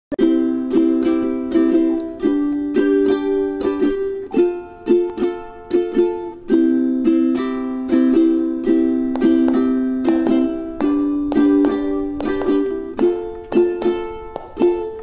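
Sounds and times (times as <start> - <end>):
ukulele strumming chords: 0.1 - 15.0.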